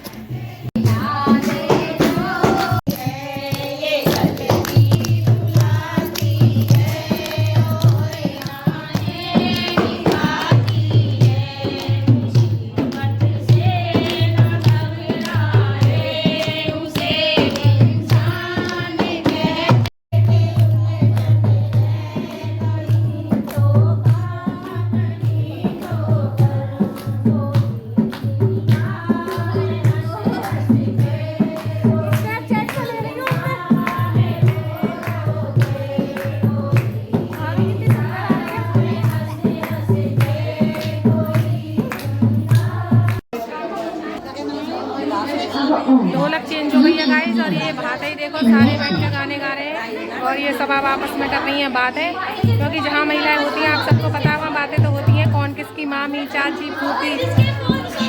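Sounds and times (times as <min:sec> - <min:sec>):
women singing folk song: 0:00.0 - 0:43.2, 0:46.2 - 0:58.0
dholak drum beat: 0:00.3 - 0:43.3, 0:46.2 - 0:49.6, 0:50.4 - 0:58.0.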